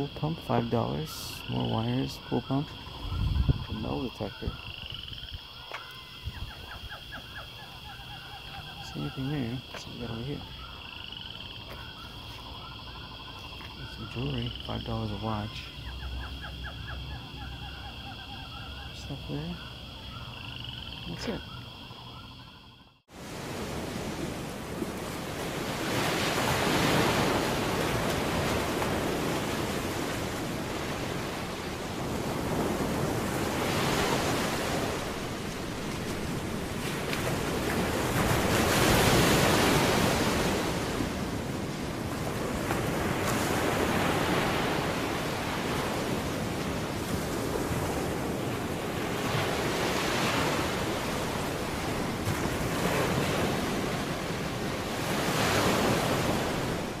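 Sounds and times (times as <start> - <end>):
waves breaking and washing in: 0.0 - 57.0.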